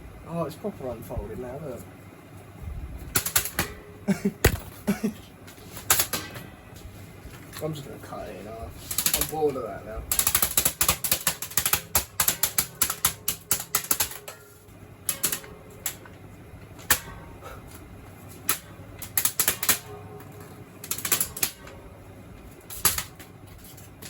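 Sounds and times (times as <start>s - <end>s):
fan motor humming: 0.0s - 24.0s
fan blades slapping paper: 3.1s - 21.8s, 22.4s - 24.0s.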